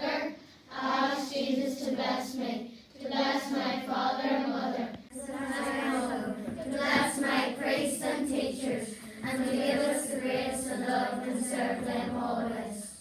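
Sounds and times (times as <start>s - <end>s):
children chanting a prayer: 0.0s - 13.0s.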